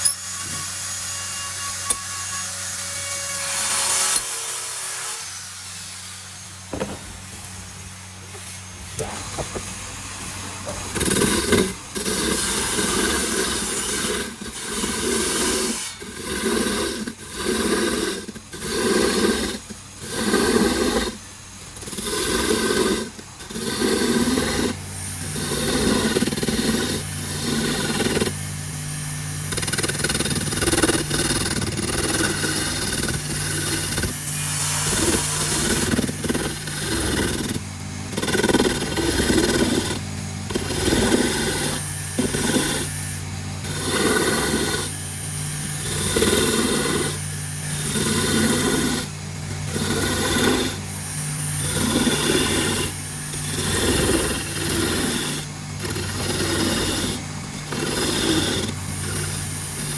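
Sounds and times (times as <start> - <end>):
power tool motor hum: 0.0 - 59.9
sanding strokes on wood: 0.0 - 59.9.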